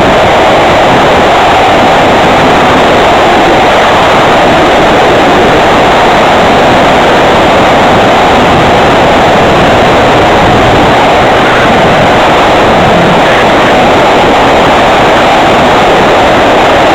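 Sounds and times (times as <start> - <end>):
propeller drone: 0.0 - 16.9
wind rush: 0.0 - 16.9.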